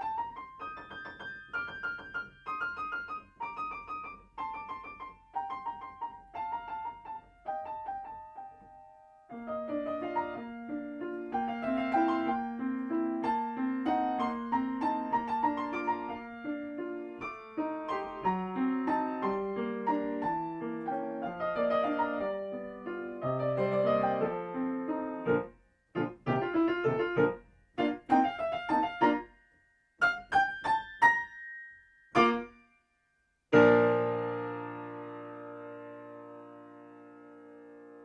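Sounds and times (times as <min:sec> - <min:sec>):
solo piano playing: 0:00.0 - 0:29.3, 0:30.0 - 0:32.6, 0:33.5 - 0:38.0.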